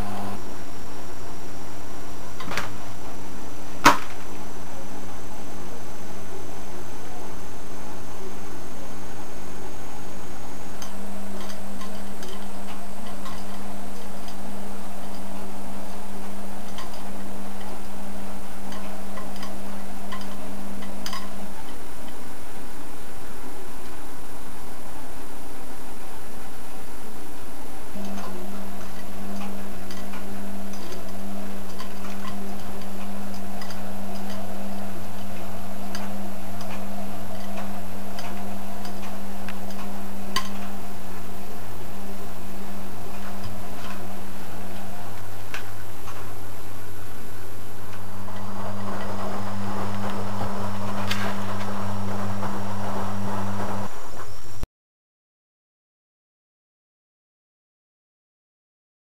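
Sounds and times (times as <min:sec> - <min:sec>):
washing machine humming: 0:00.0 - 0:54.6.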